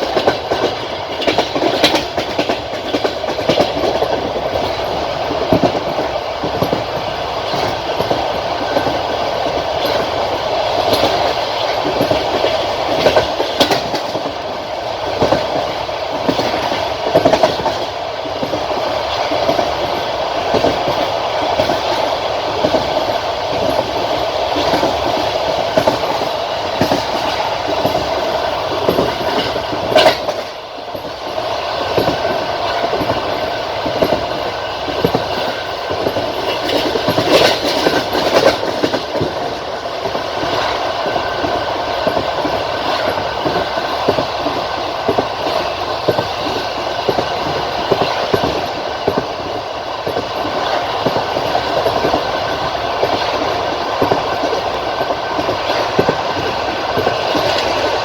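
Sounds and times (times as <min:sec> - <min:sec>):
train rolling rumble: 0:00.0 - 0:58.0
train wheels clattering over rail joints: 0:00.0 - 0:58.0.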